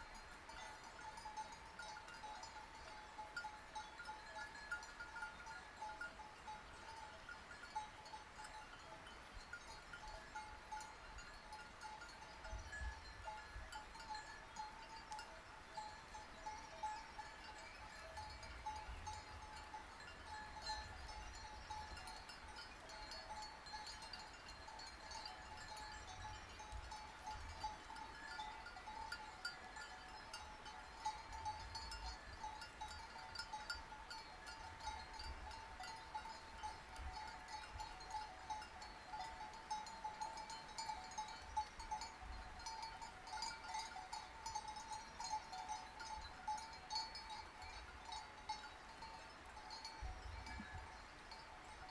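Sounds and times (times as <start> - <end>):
sheep bells clinking: 0.0 - 51.9.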